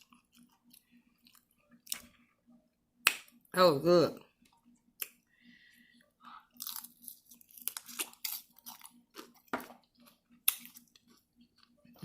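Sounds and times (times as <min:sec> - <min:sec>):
person chewing food: 0:00.0 - 0:03.4, 0:04.3 - 0:12.0.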